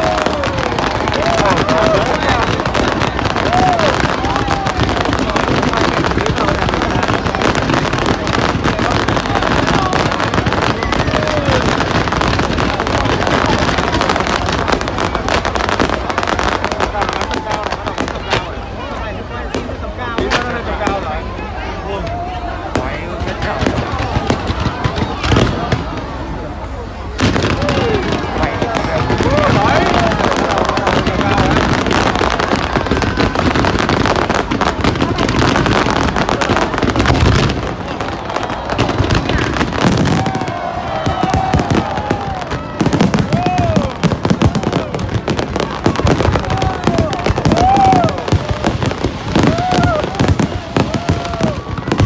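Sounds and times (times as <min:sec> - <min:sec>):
fireworks crackling: 0:00.0 - 0:52.0.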